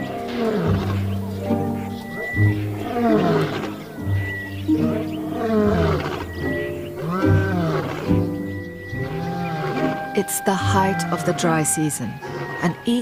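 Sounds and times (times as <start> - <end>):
lion roaring: 0.0 - 11.4, 12.1 - 13.0
background music: 0.0 - 13.0.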